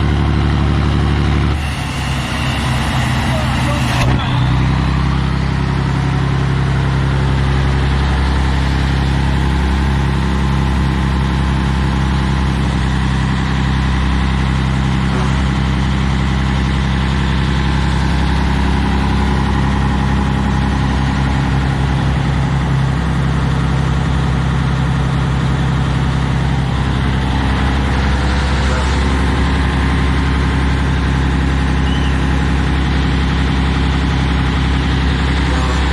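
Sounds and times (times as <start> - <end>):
diesel truck idling: 0.0 - 35.9.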